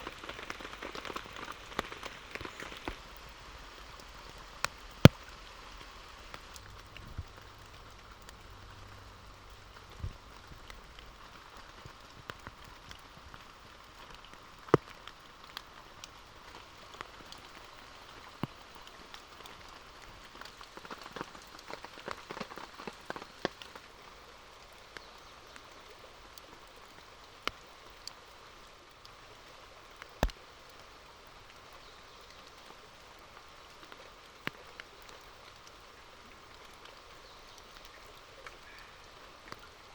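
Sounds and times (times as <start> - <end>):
raindrops tapping on a surface: 0.0 - 39.9.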